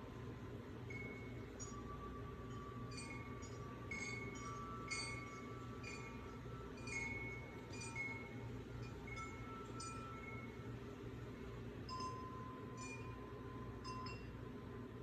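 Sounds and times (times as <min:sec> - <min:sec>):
wind chimes ringing: 0:00.0 - 0:14.9
low steady hum: 0:00.0 - 0:15.0.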